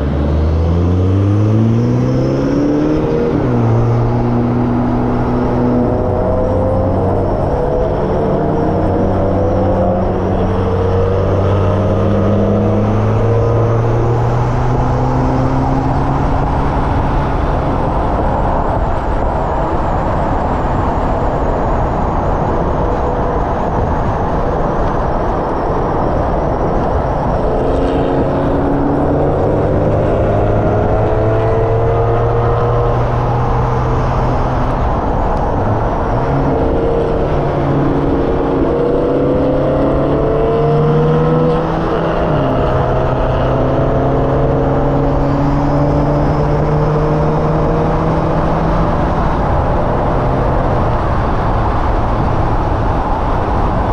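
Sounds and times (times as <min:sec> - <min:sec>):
car engine accelerating: 0:00.0 - 0:53.9
wind and tyre noise: 0:00.0 - 0:53.9.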